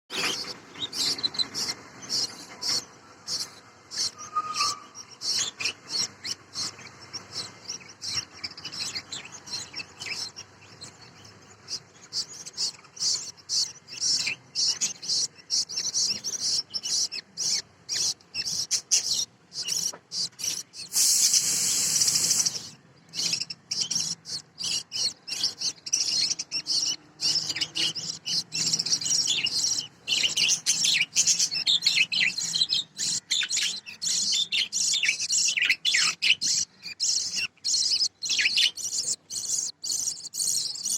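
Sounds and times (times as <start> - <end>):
budgies chirping and chattering: 0.1 - 40.9.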